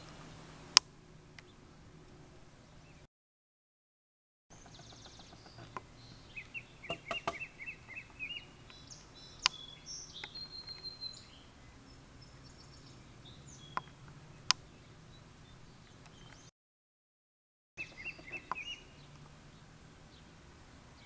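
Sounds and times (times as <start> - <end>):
birds chirping: 0.0 - 3.1, 4.5 - 16.5, 17.8 - 21.0.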